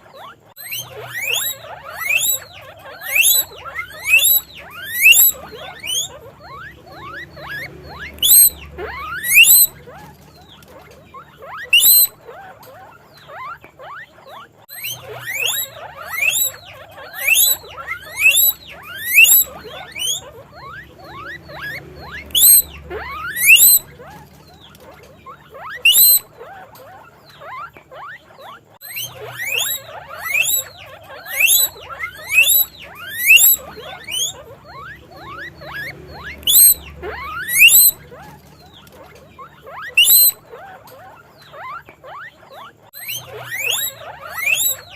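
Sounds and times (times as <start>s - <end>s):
guinea pigs wheeking: 0.0s - 44.9s.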